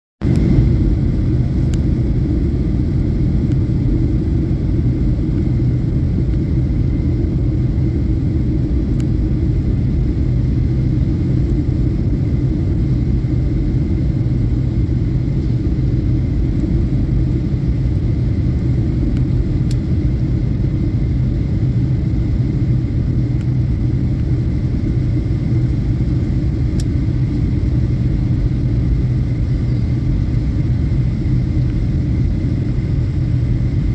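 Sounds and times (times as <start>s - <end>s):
jet engine rumble in cabin: 0.2s - 33.9s.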